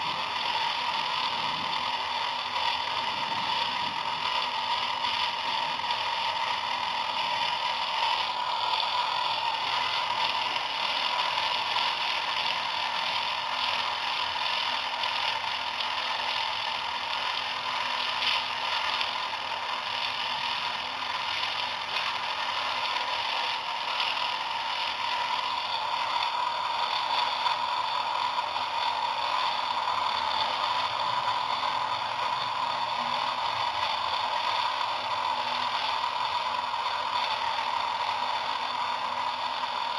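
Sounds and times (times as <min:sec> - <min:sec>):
small motor whirring rattle: 0:00.0 - 0:39.9.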